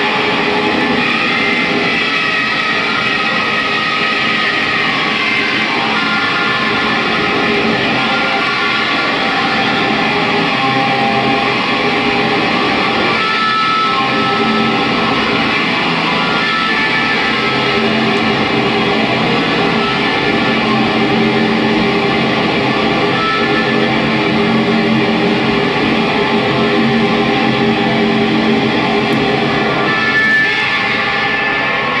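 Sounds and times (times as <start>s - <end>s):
distorted electric guitar: 0.0s - 32.0s.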